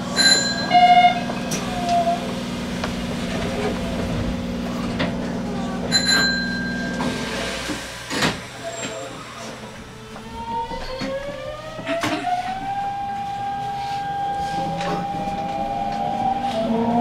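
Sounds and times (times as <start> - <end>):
train low hum: 0.0 - 17.0.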